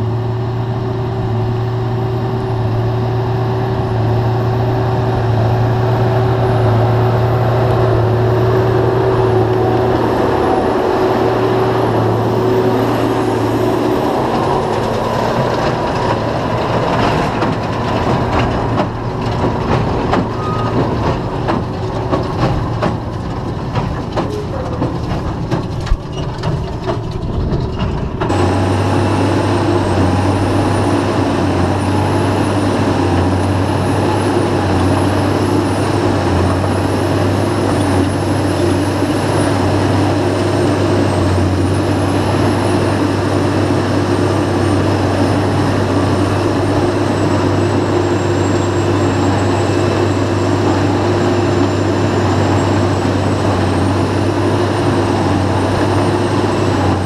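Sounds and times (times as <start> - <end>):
tractor diesel engine drone: 0.0 - 57.0.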